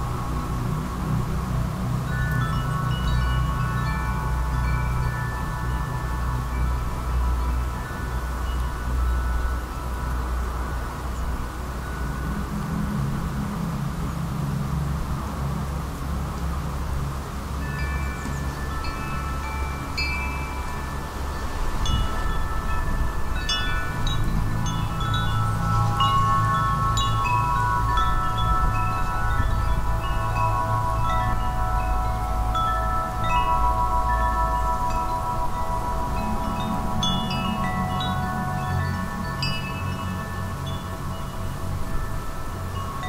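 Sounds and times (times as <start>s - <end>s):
wind chimes ringing: 0.0s - 13.4s, 16.8s - 43.0s
low rush of wind: 0.0s - 43.0s.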